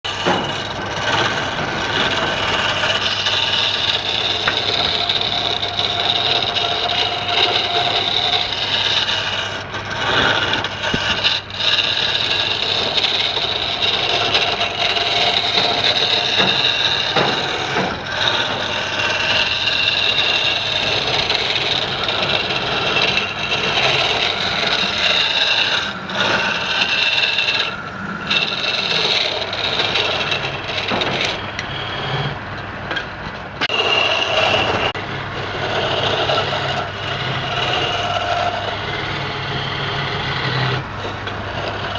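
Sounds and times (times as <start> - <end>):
lathe tool scraping wood: 0.0 - 41.9
lathe motor hum: 0.1 - 41.9.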